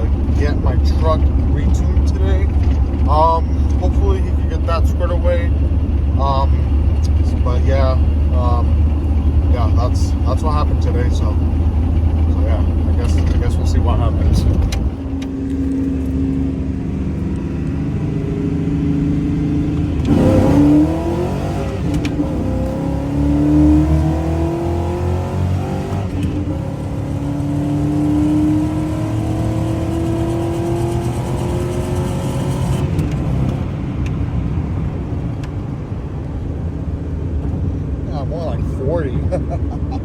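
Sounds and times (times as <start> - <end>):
pickup truck engine revving: 0.0 - 33.7.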